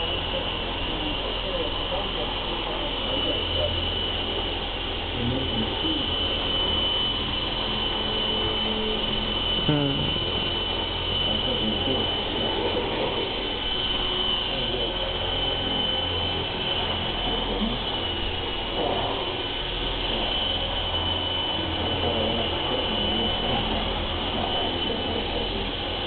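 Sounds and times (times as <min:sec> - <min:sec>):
electric motor whine: 0:00.0 - 0:26.0
helicopter rotor whirring: 0:00.0 - 0:26.0.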